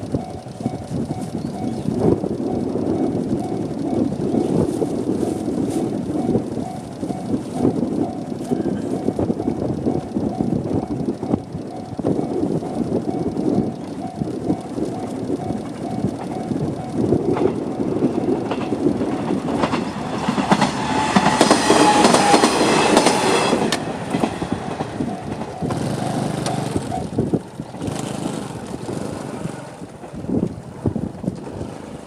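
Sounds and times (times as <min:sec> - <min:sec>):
diesel railcar passing: 0:00.0 - 0:32.0
wheels clicking over rail joints: 0:00.0 - 0:32.0.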